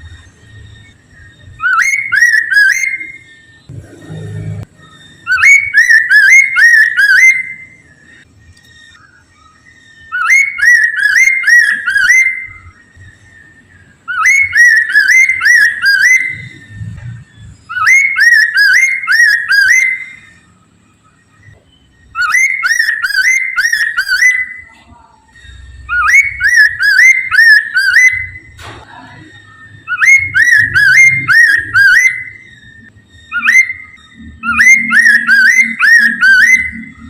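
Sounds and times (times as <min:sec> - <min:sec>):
bird singing whistled notes: 0:00.0 - 0:37.0.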